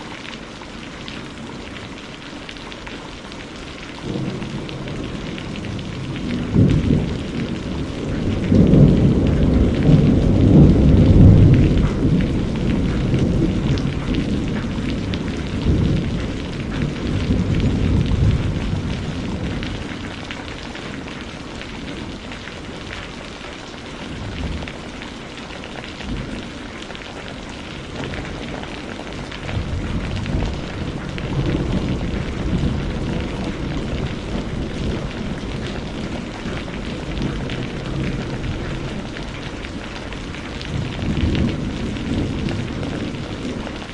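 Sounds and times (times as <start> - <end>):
steady rain: 0.0 - 43.9
rolling thunder: 4.0 - 22.9, 26.0 - 43.9.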